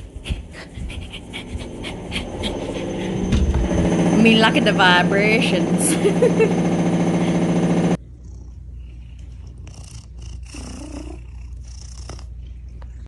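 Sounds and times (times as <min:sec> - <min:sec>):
cat purring: 0:00.0 - 0:06.5, 0:07.9 - 0:13.0.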